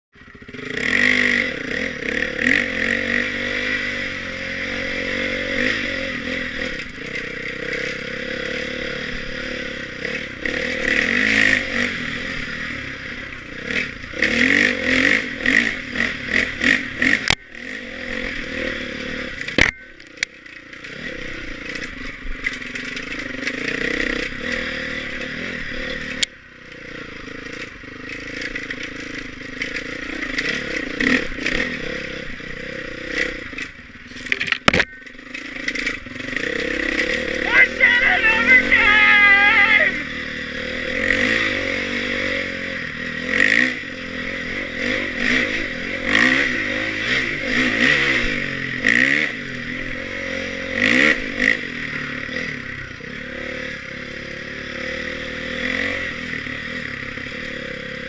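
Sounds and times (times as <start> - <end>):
dirt bike engine revving: 0.2 - 58.0.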